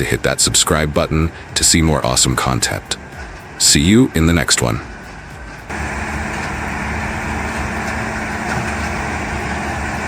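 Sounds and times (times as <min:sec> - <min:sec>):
heavy machinery engine running: 0:00.0 - 0:10.0.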